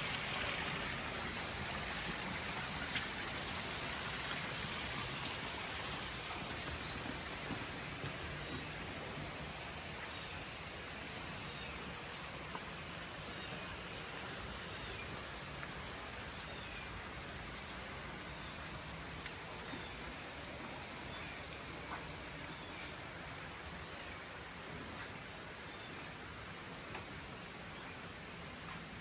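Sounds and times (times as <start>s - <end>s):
outdoor hiss: 0.0s - 29.0s.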